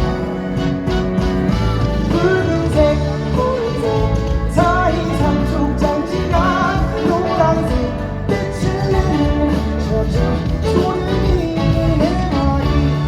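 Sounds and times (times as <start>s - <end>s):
guitar: 0.0s - 13.0s
man singing: 0.0s - 13.0s
pop-rock band playing: 0.0s - 13.0s.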